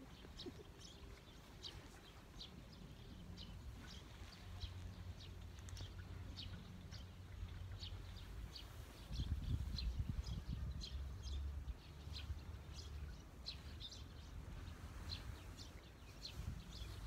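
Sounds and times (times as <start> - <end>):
small birds chirping: 0.0 - 17.0
low rumble on microphone: 2.4 - 17.0.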